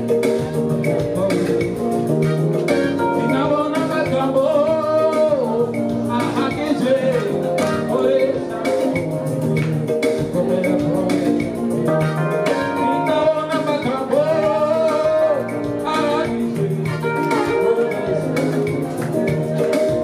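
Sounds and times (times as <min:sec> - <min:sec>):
music with quick beat and guitar: 0:00.0 - 0:20.0
person singing: 0:00.0 - 0:20.0.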